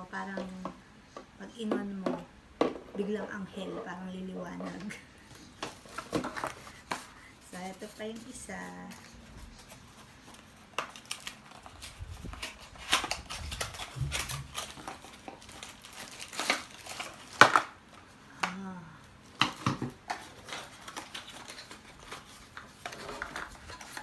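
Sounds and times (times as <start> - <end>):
plastic packaging rustling: 2.7 - 18.5, 19.2 - 24.0.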